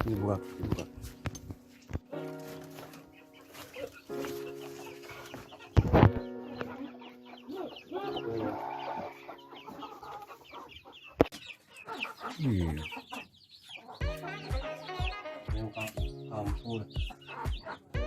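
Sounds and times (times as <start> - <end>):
background music: 0.0 - 18.0
chickens clucking: 0.0 - 18.0.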